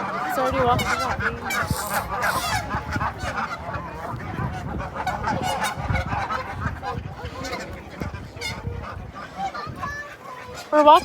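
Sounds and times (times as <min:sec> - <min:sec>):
waterfowl calling: 0:00.0 - 0:11.0.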